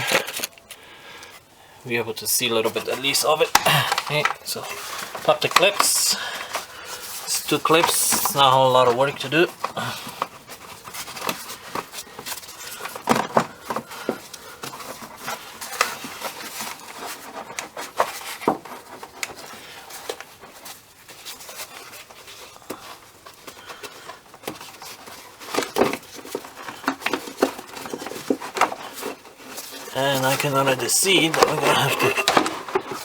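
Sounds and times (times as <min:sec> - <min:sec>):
air filter rustling: 0:00.0 - 0:33.0.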